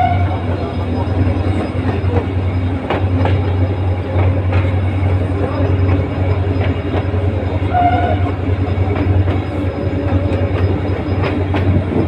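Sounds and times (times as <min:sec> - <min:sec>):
diesel locomotive engine drone: 0:00.0 - 0:12.0
wheels clacking over rail joints: 0:00.0 - 0:12.0.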